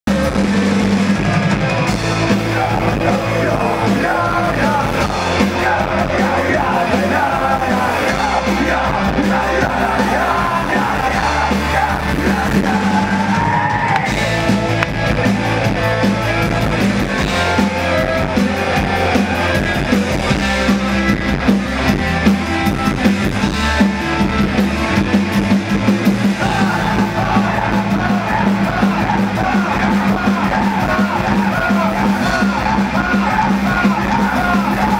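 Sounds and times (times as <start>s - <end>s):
punk rock band playing: 0.0s - 34.9s.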